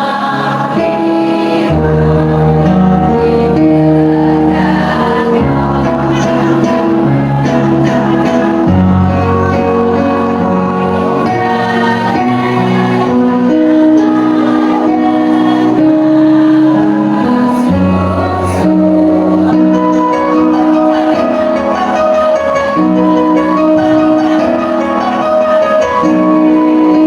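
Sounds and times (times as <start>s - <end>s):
choir singing in chords: 0.0s - 27.0s.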